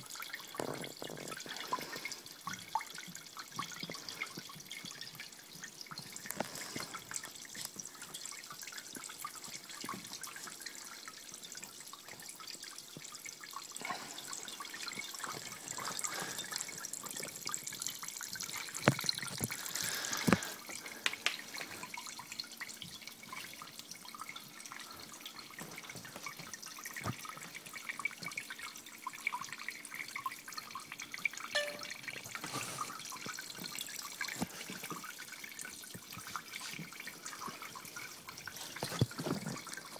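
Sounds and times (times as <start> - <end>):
water dripping into glass beakers: 0.0 - 39.9.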